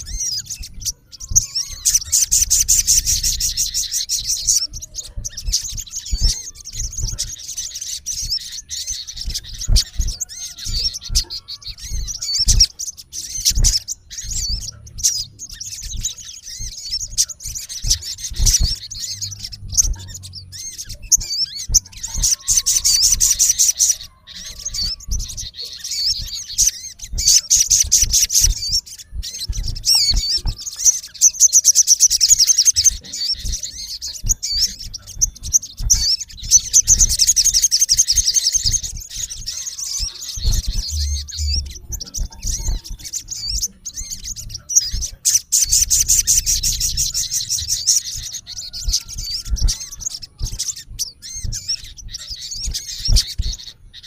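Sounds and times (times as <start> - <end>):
bird trilling high notes: 0.0 - 54.0.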